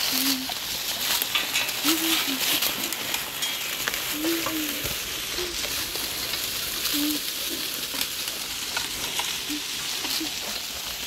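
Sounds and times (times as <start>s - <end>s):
tracks crunching over dry leaves: 0.0s - 11.0s.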